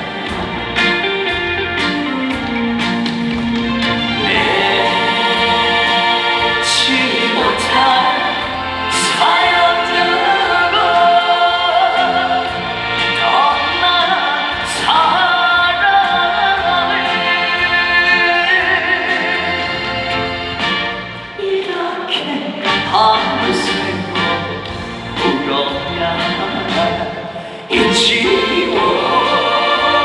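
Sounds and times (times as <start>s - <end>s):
band playing trot music: 0.0s - 30.0s.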